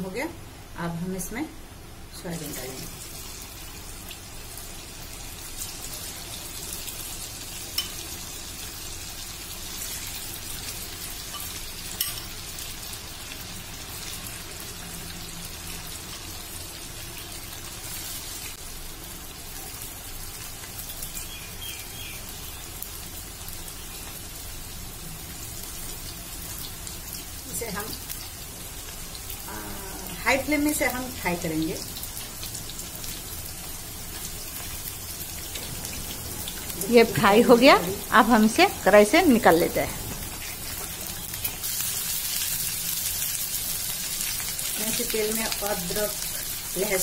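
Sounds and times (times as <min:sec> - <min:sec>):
deep-frying crackling sizzle: 0:00.0 - 0:47.0.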